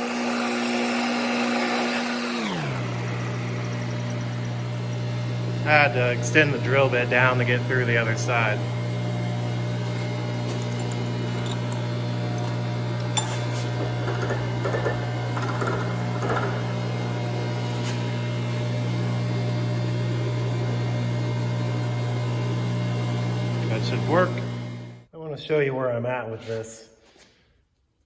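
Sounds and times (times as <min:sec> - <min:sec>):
drill boring through steel: 0:00.0 - 0:25.0
milling machine humming: 0:00.0 - 0:25.0.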